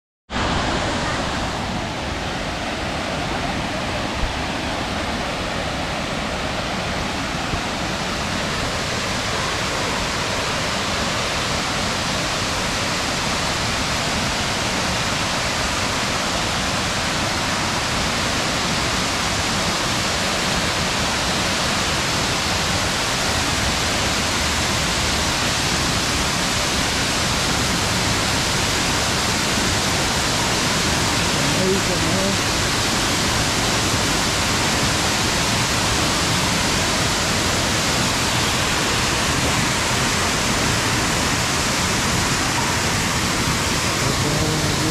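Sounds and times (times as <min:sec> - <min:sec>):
waterfall rushing: 0:00.3 - 0:44.9.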